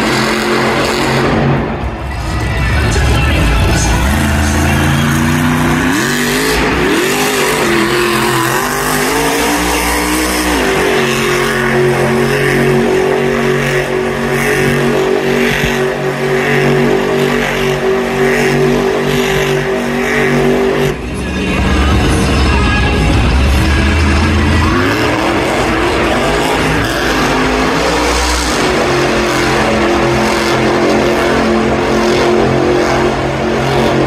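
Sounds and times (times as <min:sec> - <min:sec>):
truck engine at high revs: 0:00.0 - 0:34.0.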